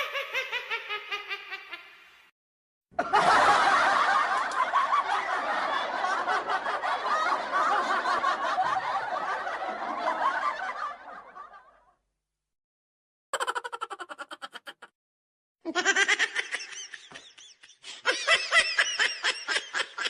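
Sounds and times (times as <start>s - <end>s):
laughter: 0.0s - 2.0s, 3.0s - 12.0s, 13.4s - 14.9s, 15.7s - 20.0s.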